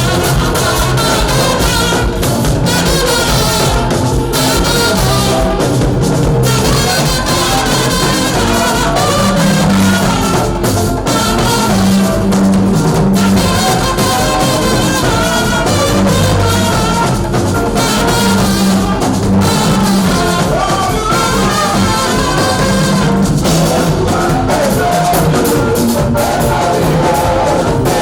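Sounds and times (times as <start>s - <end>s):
band music: 0.0s - 28.0s
drum kit: 0.0s - 28.0s
voices singing: 0.0s - 28.0s.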